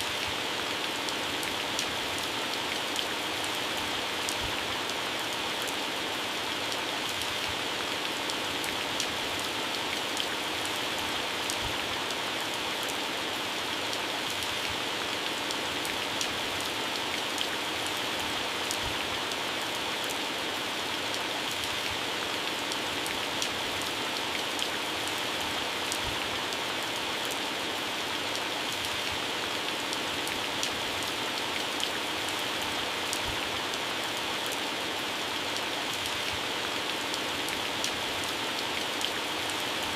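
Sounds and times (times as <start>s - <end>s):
heavy rain on plants and grass: 0.0s - 39.9s.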